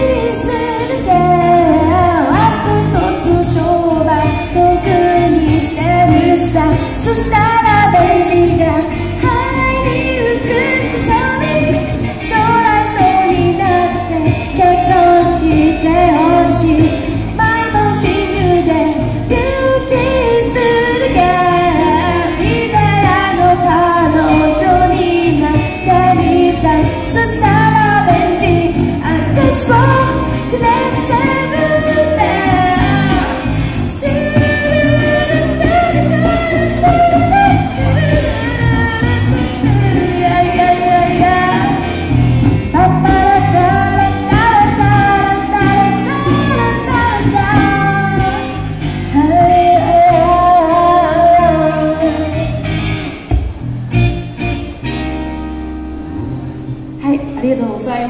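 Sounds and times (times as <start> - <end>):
woman singing pop song: 0.0 - 53.3, 57.0 - 58.0
instrumental accompaniment: 0.0 - 57.8.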